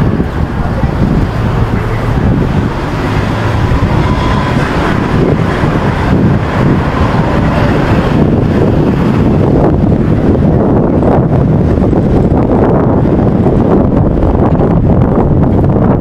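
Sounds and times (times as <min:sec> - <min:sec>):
city street traffic: 0:00.0 - 0:16.0
wind rumbling on microphone: 0:00.0 - 0:16.0.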